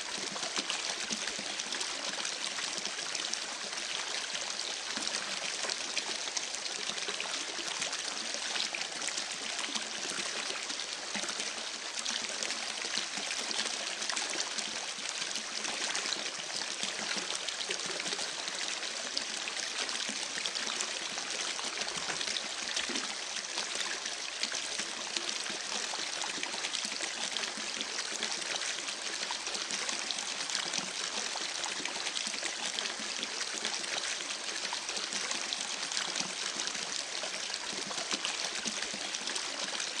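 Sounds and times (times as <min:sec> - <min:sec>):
creek water babbling: 0:00.0 - 0:40.0.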